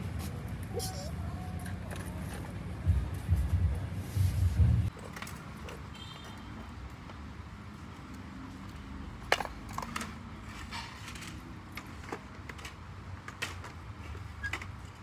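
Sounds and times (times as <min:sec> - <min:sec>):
low rumble of shop ambience: 0:00.0 - 0:15.0.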